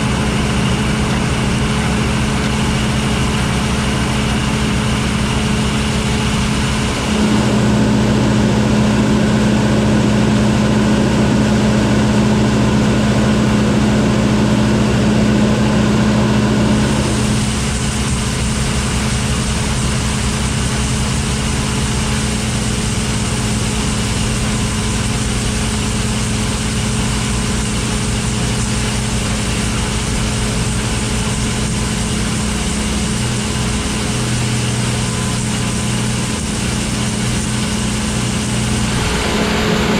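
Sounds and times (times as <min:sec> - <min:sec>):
farm machinery engine droning: 0:00.0 - 0:39.9.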